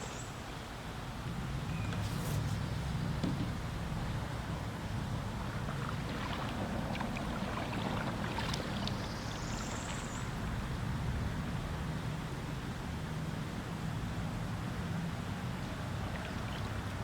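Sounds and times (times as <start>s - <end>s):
water noise: 1.2s - 17.0s.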